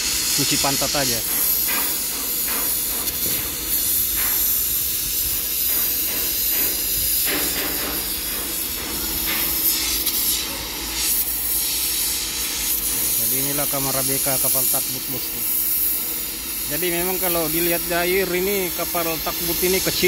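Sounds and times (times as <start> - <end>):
steady hissing noise: 0.0 - 20.0.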